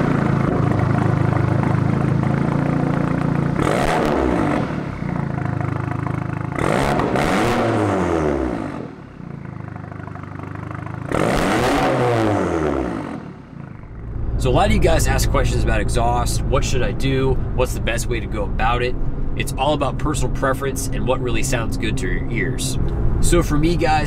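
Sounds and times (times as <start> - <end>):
car engine revving: 0.0 - 24.0
raspy exhaust note: 0.0 - 24.0.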